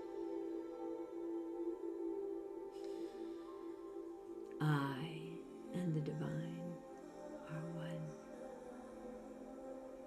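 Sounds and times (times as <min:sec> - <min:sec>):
ambient drone music: 0:00.0 - 0:10.0.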